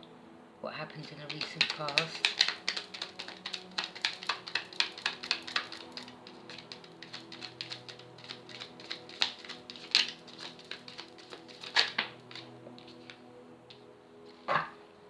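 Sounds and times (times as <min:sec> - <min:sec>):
soft background music: 0:00.0 - 0:15.0
cards being shuffled: 0:01.0 - 0:13.2.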